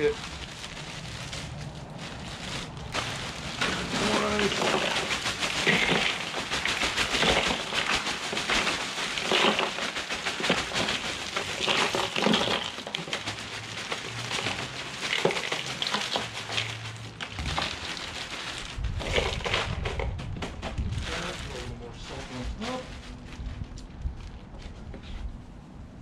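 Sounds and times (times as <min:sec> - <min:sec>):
ice rattling into cooler: 0:00.0 - 0:00.4, 0:02.1 - 0:22.9.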